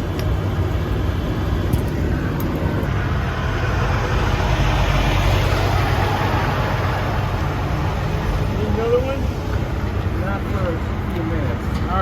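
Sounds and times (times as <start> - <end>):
freeway traffic rumble: 0.0 - 12.0
passing vehicle: 0.7 - 12.0.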